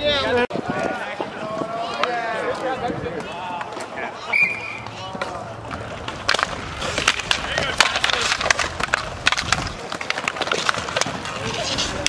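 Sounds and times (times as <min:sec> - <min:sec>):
inline skate wheels rolling: 0:00.1 - 0:12.0
hockey sticks clacking: 0:01.2 - 0:12.0.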